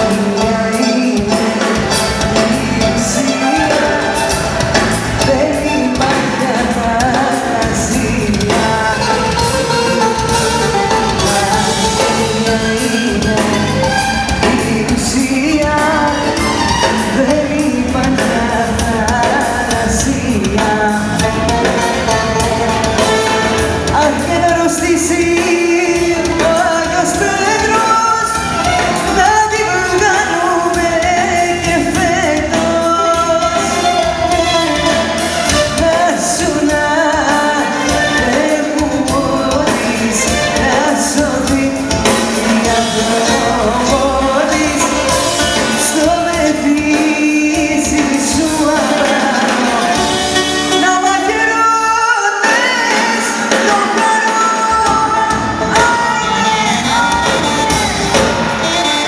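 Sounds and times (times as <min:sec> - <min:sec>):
woman singing into a microphone: 0:00.0 - 0:58.9
amplified band playing: 0:00.0 - 0:59.0.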